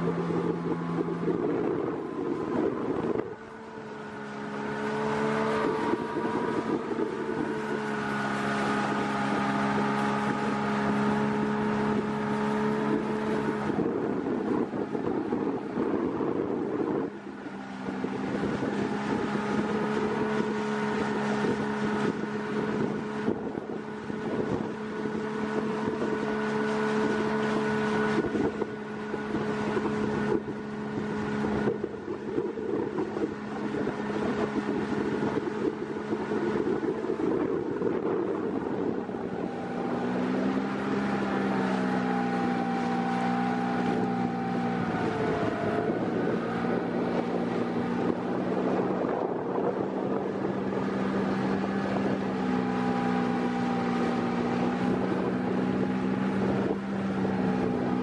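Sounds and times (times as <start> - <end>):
outboard motor running: 0.0 - 58.0
wind on microphone: 0.0 - 58.0.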